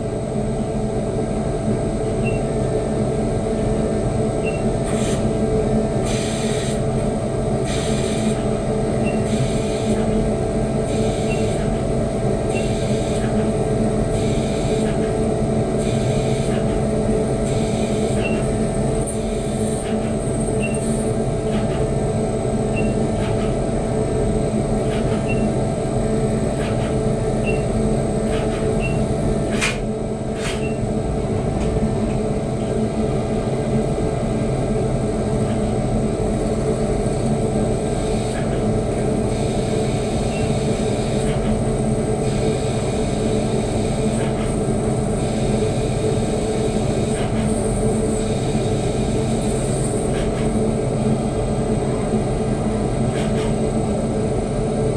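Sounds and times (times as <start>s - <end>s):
milling machine drone and whine: 0.0s - 54.9s.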